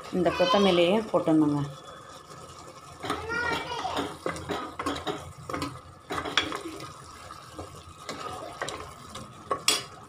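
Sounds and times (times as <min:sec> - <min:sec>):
wet gravy sounds: 0:00.0 - 0:10.0
ladle knocking and scraping pot: 0:00.3 - 0:10.0.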